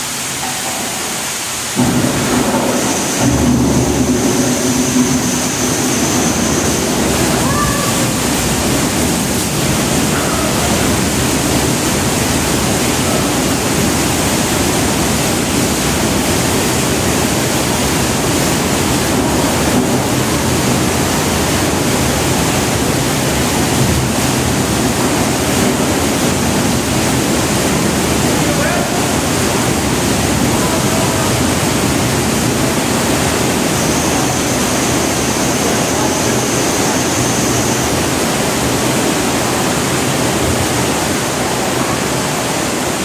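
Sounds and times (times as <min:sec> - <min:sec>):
loud rushing water: 0:00.0 - 0:43.0.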